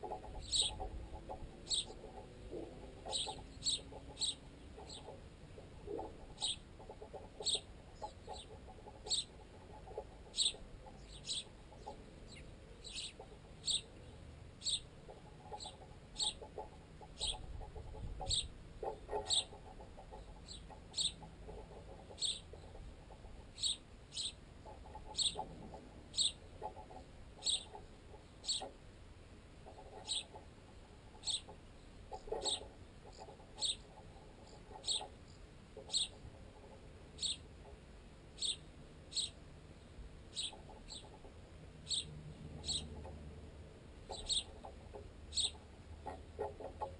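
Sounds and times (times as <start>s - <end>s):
sparrows chirping: 0.0s - 28.8s, 29.6s - 36.3s, 37.1s - 37.6s, 38.3s - 43.2s, 44.0s - 46.9s.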